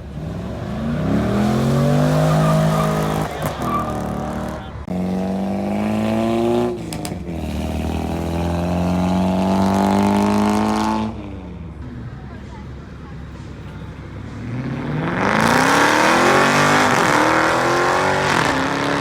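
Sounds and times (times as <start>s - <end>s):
car engine accelerating hard: 0.0s - 11.3s, 14.2s - 19.0s.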